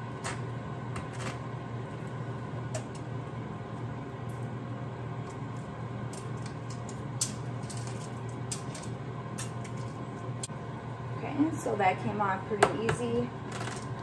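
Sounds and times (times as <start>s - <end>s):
air fryer humming: 0.0s - 14.0s.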